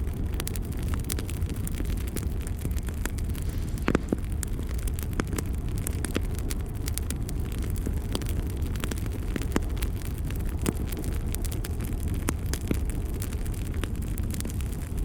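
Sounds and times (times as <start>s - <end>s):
fire crackles and pops: 0.0s - 15.0s
fire roaring: 0.0s - 15.0s.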